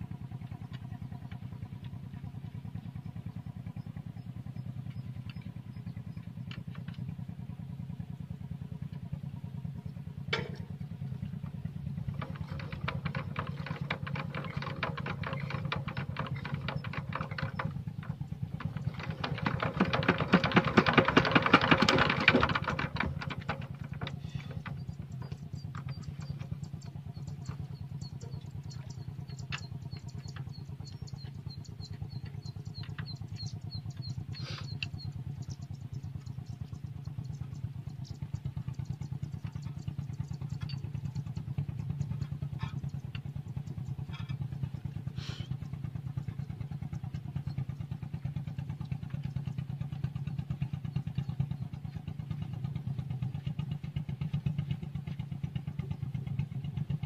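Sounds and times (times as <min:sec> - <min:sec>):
diesel tractor engine idling and revving: 0:00.0 - 0:57.0.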